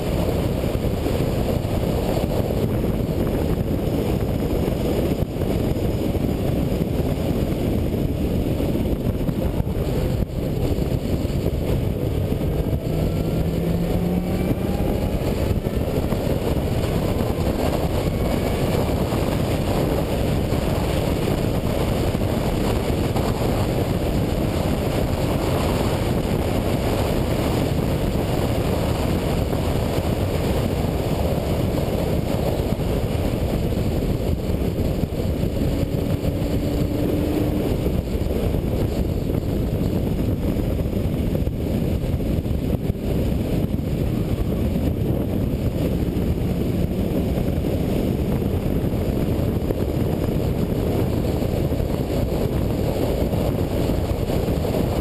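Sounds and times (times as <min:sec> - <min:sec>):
car engine at speed: 0:00.0 - 0:55.0
heavy wind: 0:00.0 - 0:55.0
road rumble: 0:00.0 - 0:55.0.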